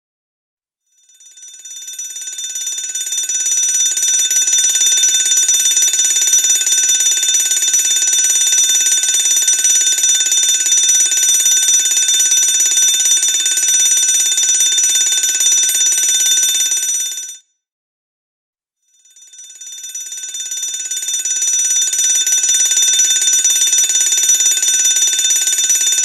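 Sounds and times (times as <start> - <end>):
fire alarm bell ringing: 1.0 - 17.4, 19.0 - 26.0.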